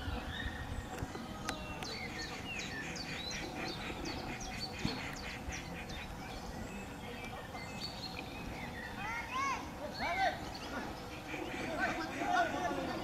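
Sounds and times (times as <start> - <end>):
birds chirping: 0.0 - 13.0
low background noise: 0.0 - 13.0.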